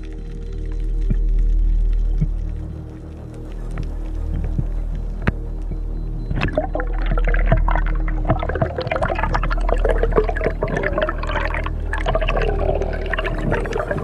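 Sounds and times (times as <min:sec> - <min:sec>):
crackle of small clicks: 0:00.0 - 0:14.0
steady low hum: 0:00.0 - 0:14.0
water moving and gurgling: 0:00.0 - 0:14.0.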